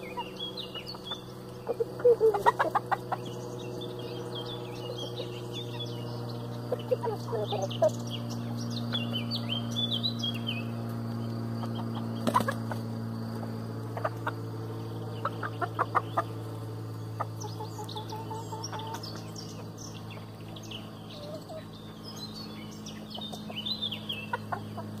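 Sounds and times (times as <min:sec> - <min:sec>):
hens clucking: 0:00.0 - 0:08.2, 0:11.5 - 0:22.1, 0:22.9 - 0:25.0
small birds chirping: 0:00.0 - 0:25.0
steady low hum: 0:00.0 - 0:25.0.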